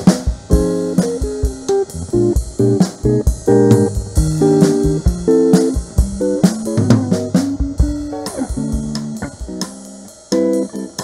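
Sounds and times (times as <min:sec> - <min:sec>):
bass guitar: 0:00.0 - 0:11.0
guitar: 0:00.0 - 0:11.0
steady drum beat: 0:00.0 - 0:11.0.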